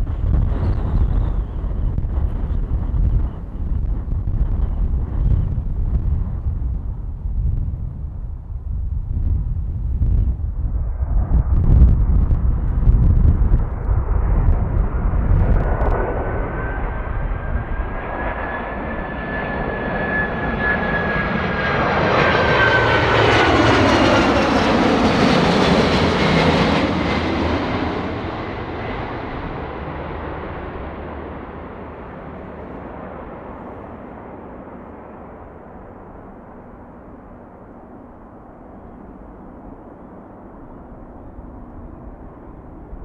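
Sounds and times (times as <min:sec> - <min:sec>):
jet airliner passing: 0:00.0 - 0:43.0
wind buffeting microphone: 0:00.0 - 0:43.0.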